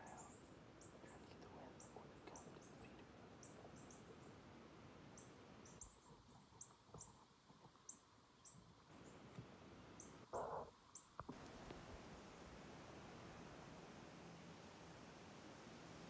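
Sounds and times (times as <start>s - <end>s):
faint wind: 0.0s - 16.0s.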